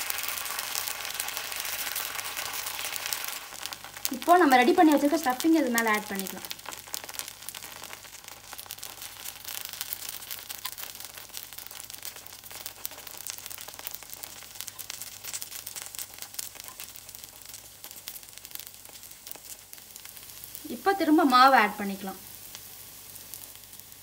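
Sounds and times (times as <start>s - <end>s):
batter frying in hot oil: 0.0s - 24.0s.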